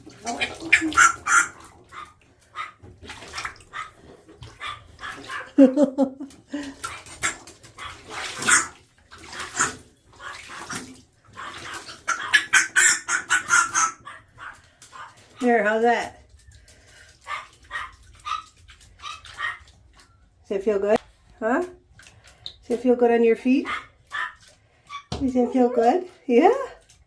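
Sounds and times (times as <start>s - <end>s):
water splashing and dripping: 0.0s - 27.0s.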